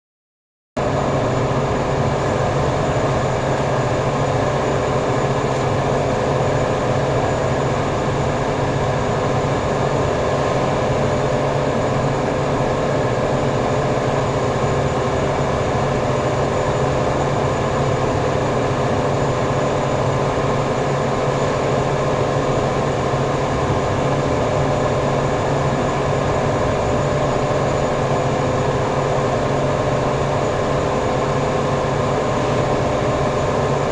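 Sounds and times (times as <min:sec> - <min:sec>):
workshop machinery motor drone: 0:00.8 - 0:33.9.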